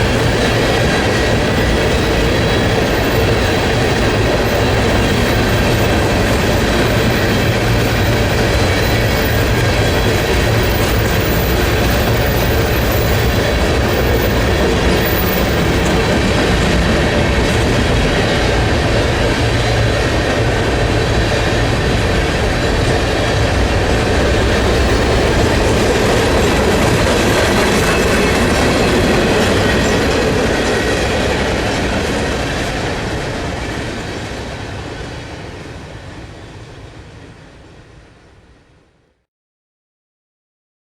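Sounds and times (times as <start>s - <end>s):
freight train wheels clattering: 0.0s - 36.1s.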